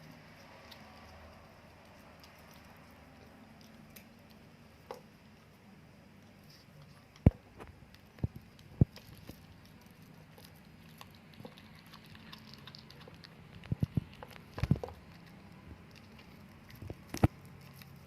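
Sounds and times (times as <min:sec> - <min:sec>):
cat chewing food: 0:00.0 - 0:18.0.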